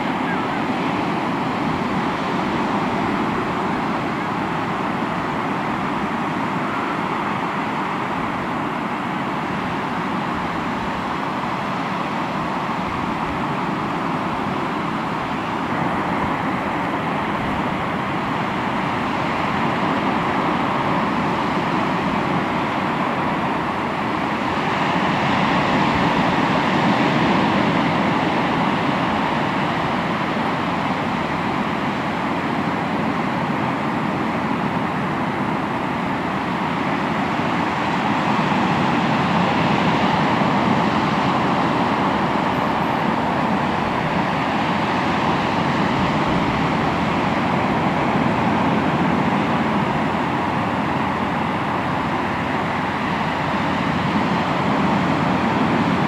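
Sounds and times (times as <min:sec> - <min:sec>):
sea surf washing on shore: 0:00.0 - 0:56.0.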